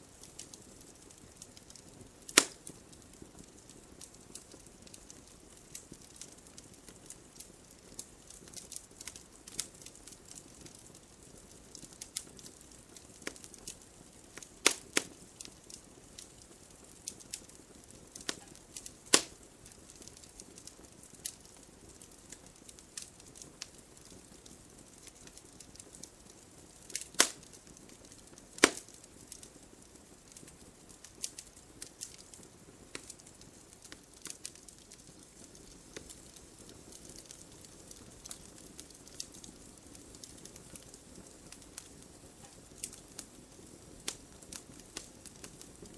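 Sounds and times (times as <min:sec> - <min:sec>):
faint steady hiss: 0:00.0 - 0:45.9
wood fire crackling: 0:00.0 - 0:45.9.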